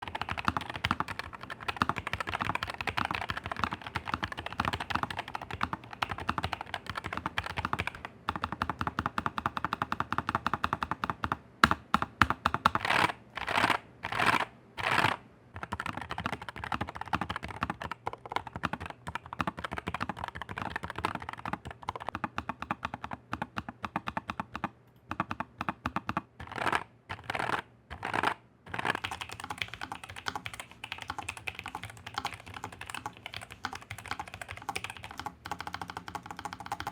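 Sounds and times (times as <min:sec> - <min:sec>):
typing on mechanical keyboard: 0:00.0 - 0:36.9.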